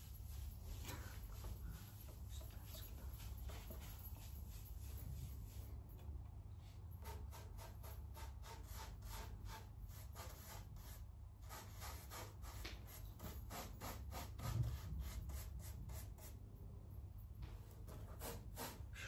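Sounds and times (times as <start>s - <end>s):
rubbing strokes on styrofoam: 0.0s - 5.8s, 7.0s - 16.4s, 17.9s - 19.0s.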